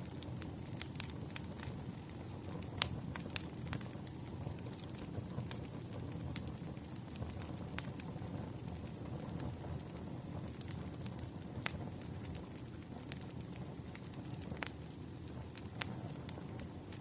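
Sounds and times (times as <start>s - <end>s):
fire crackles and pops: 0.0s - 17.0s
low fire rumble: 0.0s - 17.0s.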